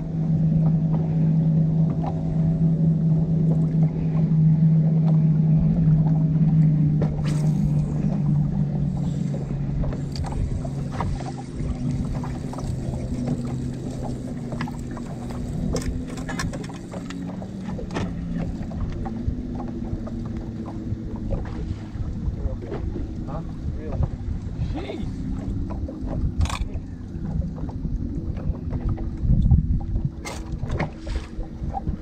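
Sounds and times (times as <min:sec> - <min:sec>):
boat motor humming: 0:00.0 - 0:32.0.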